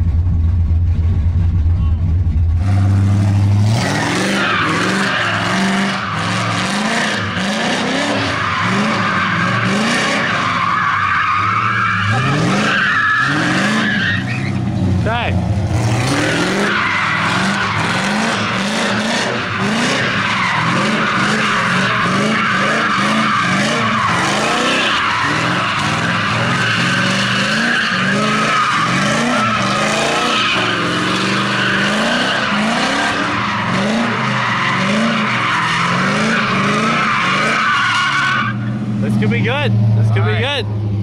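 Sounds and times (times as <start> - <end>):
car engine revving: 0.0 - 41.0
tyres squealing: 4.0 - 14.6, 16.2 - 39.2.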